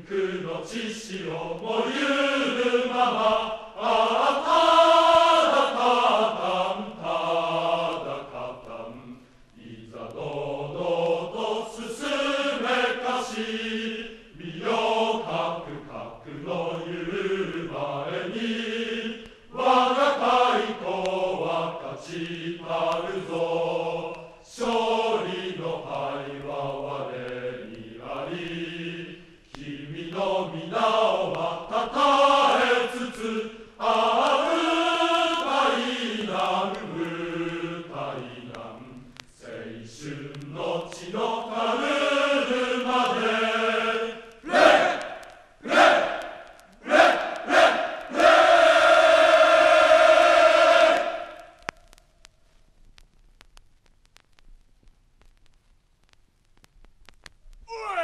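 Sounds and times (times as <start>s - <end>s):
group of men singing: 0.0s - 51.4s.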